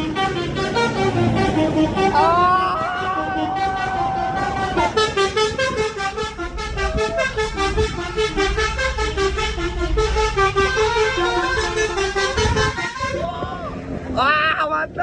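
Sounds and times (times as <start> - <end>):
multi-tone musical bus horn: 0.0 - 13.4.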